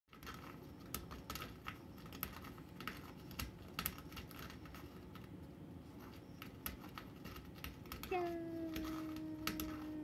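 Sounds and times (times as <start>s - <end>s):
cat claws scratching wood: 0.1s - 10.0s.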